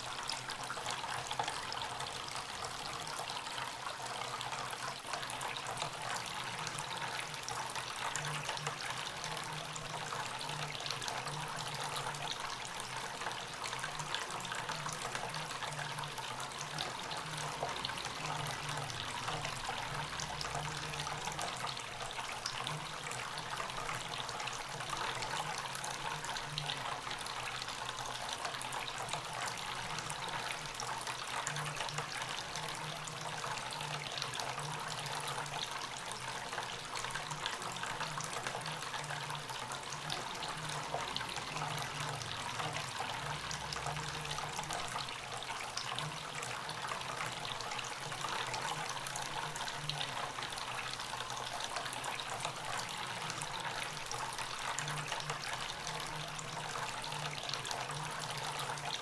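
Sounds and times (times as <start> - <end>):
water trickling into a bowl: 0.0 - 59.0.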